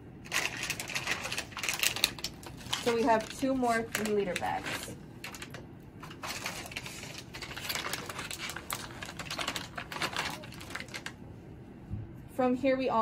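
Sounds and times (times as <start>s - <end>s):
plastic bags crinkling: 0.2s - 11.2s.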